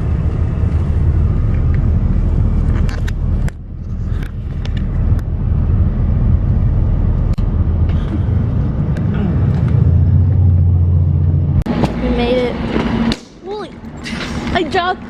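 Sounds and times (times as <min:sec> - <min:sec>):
bus engine low drone: 0:00.0 - 0:15.0.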